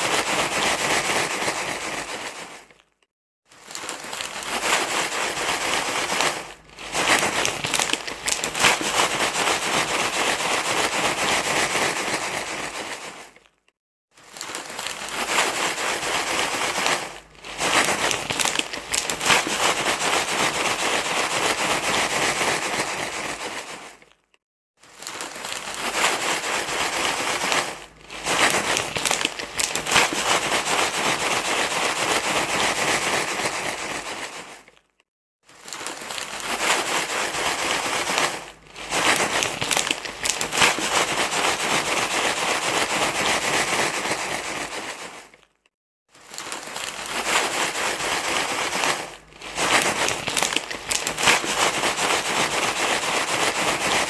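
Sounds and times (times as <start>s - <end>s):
crinkly material rustling: 0.0s - 54.0s.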